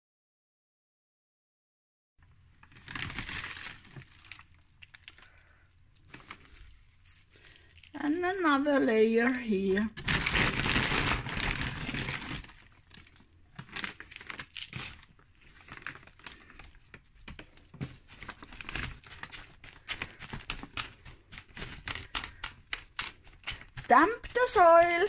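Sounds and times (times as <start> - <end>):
soil bag and newspaper rustling: 2.5 - 25.0.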